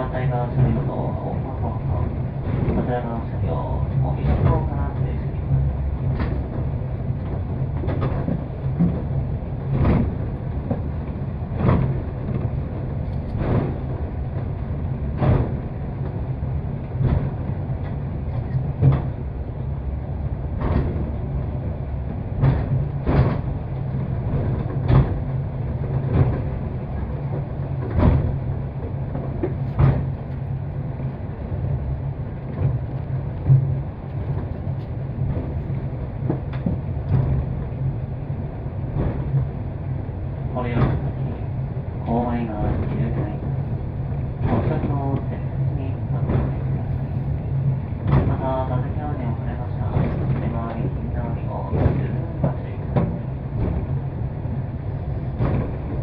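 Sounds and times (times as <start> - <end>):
wheels clacking on track: 0.0 - 31.8, 32.4 - 56.0
cable car rumbling: 0.0 - 56.0.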